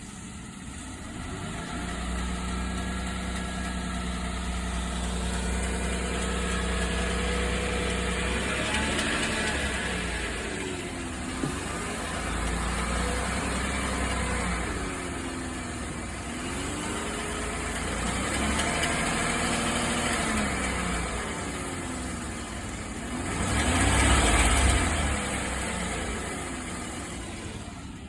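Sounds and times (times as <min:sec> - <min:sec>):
pickup truck engine revving: 0:00.7 - 0:28.0.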